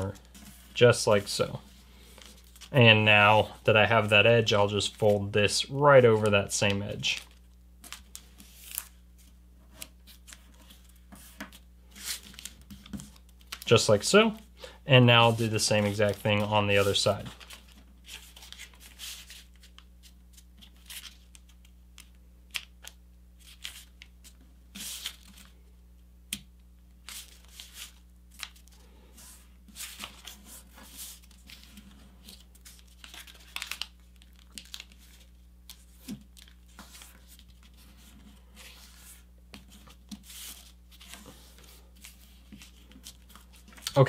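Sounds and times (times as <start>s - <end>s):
paper rustling and creasing: 0.0s - 25.6s, 27.0s - 44.0s.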